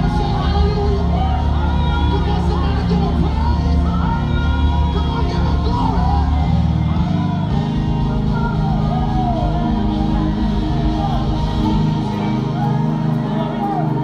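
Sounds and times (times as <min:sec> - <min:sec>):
gospel singers over instrumental backing: 0:00.0 - 0:14.0.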